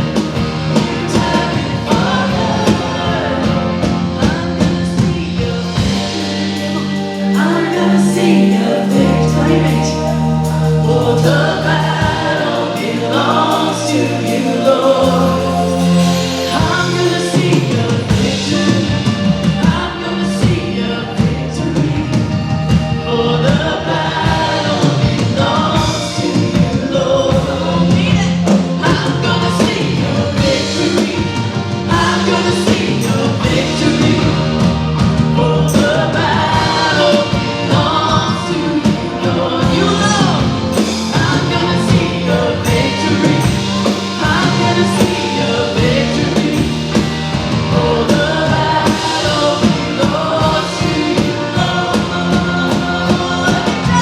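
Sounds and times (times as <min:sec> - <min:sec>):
people singing: 0:00.0 - 0:54.0
steady drum beat: 0:00.0 - 0:54.0
worship band playing: 0:00.0 - 0:54.0.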